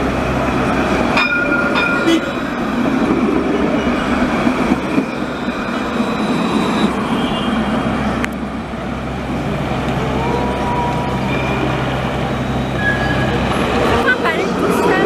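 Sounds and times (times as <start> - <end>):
street noise: 0.0 - 15.0
tram wheels rumbling on rails: 0.0 - 15.0.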